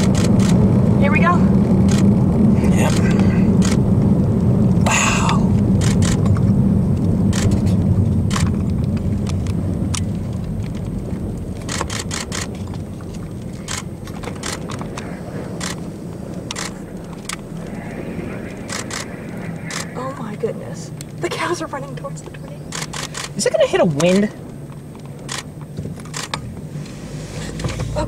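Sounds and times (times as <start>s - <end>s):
in-car road noise drone: 0.0s - 28.0s.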